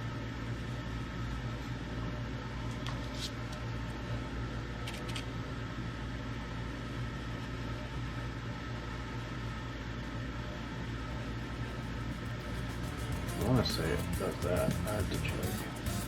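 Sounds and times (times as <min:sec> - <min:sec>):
mechanical hum with hiss: 0:00.0 - 0:16.0.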